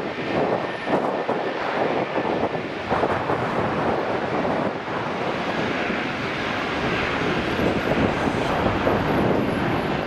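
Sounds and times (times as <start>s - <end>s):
jet engines rushing: 0.0s - 10.0s
wind noise on microphone: 0.0s - 10.0s.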